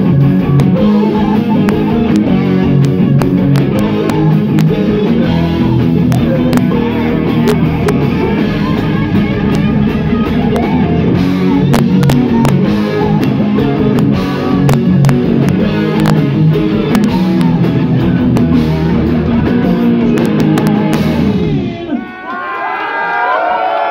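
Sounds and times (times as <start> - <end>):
live rock band playing: 0.0 - 22.0
electric guitar: 0.0 - 22.1.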